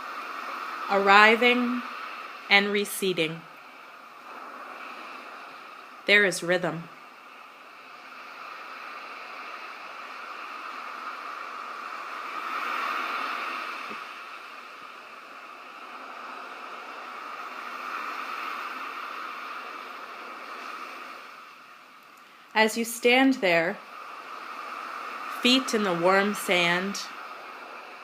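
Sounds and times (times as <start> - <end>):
ocean waves washing onto shore: 0.0 - 28.0.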